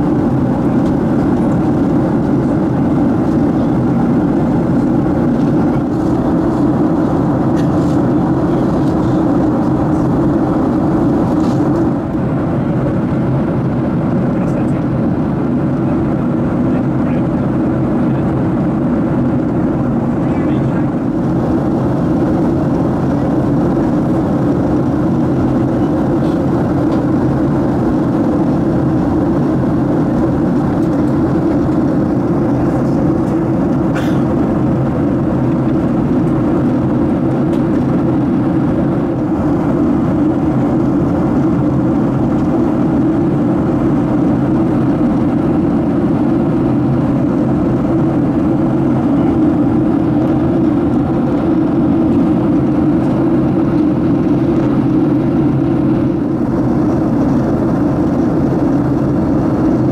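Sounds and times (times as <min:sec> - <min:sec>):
airplane cabin roar: 0:00.0 - 0:59.9.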